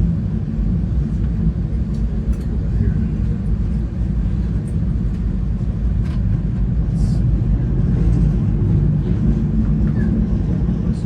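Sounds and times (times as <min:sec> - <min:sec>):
train rolling along track: 0:00.8 - 0:11.0.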